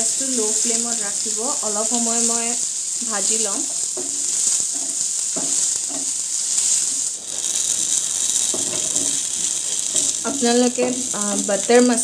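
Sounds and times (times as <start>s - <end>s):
onions sizzling in oil: 0.0s - 12.0s
wooden spatula stirring: 1.8s - 11.6s.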